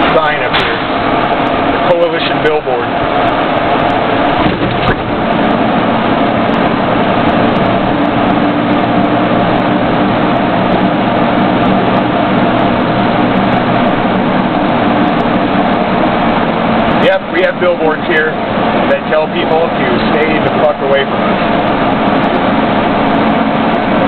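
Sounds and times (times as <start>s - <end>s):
road noise: 0.0s - 24.0s
vehicle engine drone: 0.0s - 24.0s.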